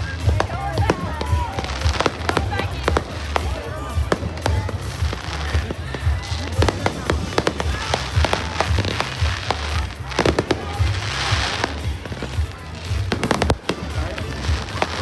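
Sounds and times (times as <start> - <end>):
dense crackling hiss: 0.0 - 15.0
fireworks bangs and pops: 0.0 - 15.0.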